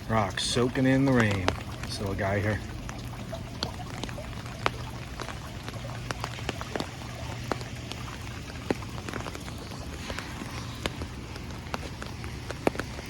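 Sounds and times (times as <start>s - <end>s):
steady rain hiss: 0.0s - 13.0s
drops ticking on surfaces: 0.5s - 13.0s.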